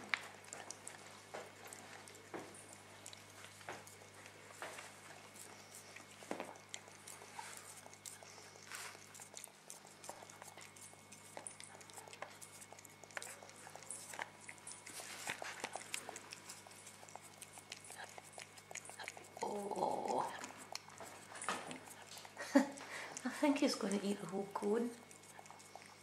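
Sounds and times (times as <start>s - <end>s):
cat licking and chewing: 0.0s - 26.0s.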